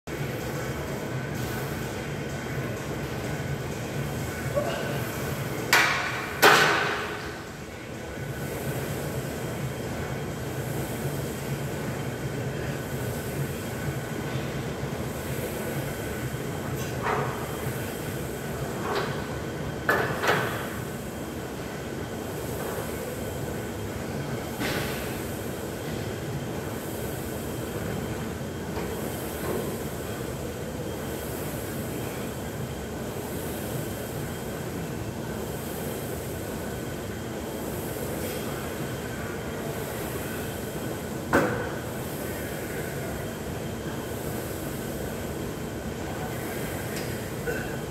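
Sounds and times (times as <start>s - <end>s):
gym background rumble: 0.1s - 47.9s.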